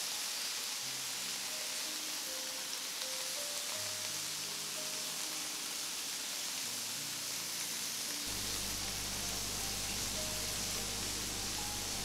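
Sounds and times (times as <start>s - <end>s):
meat sizzling in grill pan: 0.0s - 12.0s
soft background music: 0.0s - 12.0s.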